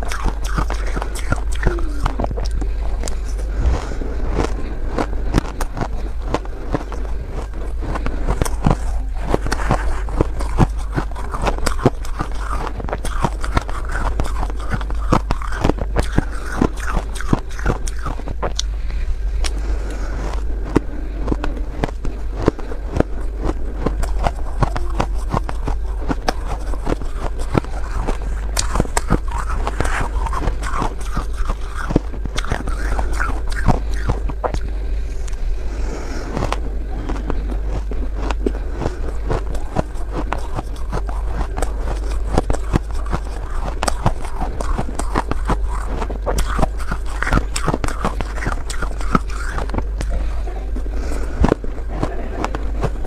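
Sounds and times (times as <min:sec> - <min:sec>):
crunching and chewing ice: 0:00.0 - 0:35.6, 0:36.2 - 0:53.0
steady low hum: 0:00.0 - 0:53.0.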